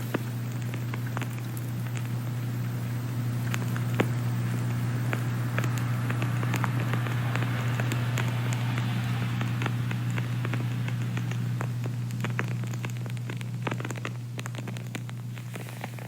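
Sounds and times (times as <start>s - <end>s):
low room tone hum: 0.0s - 16.0s
small crackles and clicks: 0.0s - 16.0s.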